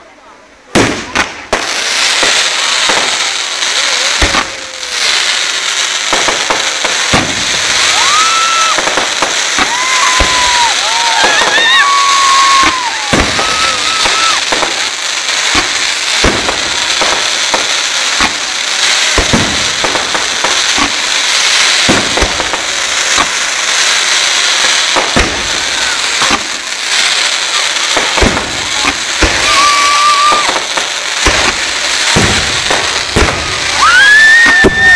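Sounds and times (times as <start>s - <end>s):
firework crackling: 0.0s - 34.9s
firework shells bursting: 3.9s - 26.7s, 27.4s - 34.9s.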